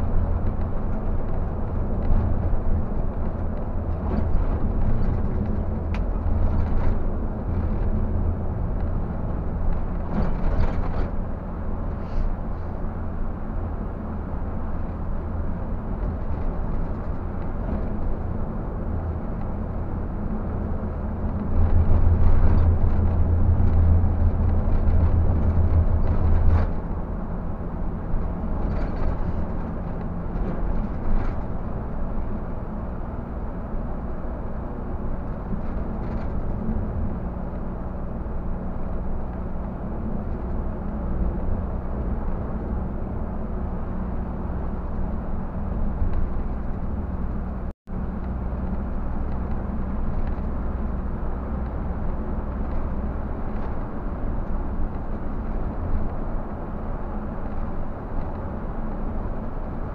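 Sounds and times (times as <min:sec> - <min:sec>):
diesel engine droning: 0:00.0 - 0:59.9
road and tyre noise: 0:00.0 - 0:59.9.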